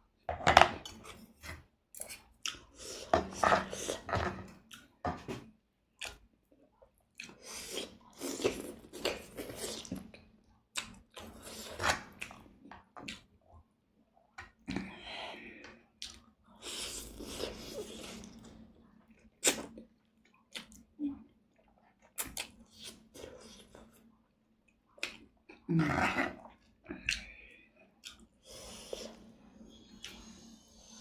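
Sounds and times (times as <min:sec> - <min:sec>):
person chewing food: 0:00.8 - 0:24.1, 0:24.7 - 0:31.0.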